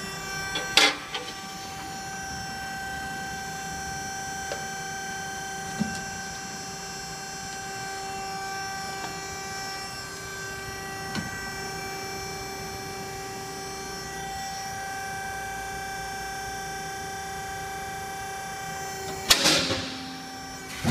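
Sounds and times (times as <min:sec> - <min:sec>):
hydraulic pump whining hum: 0:00.0 - 0:20.9.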